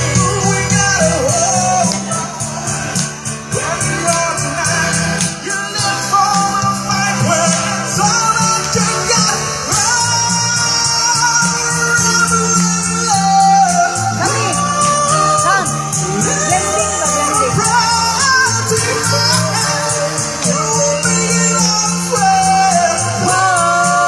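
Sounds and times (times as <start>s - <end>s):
man singing into a microphone: 0.0s - 24.0s
music through speakers: 0.0s - 24.0s.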